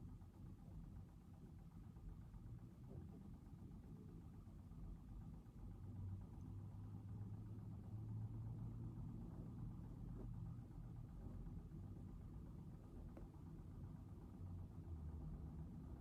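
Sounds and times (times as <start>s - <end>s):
faint low rumble: 0.0s - 16.0s.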